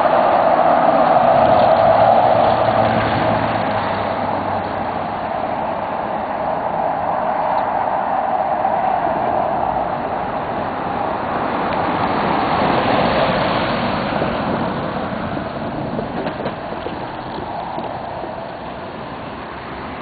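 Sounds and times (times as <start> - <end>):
steady vehicle noise: 0.0 - 20.0.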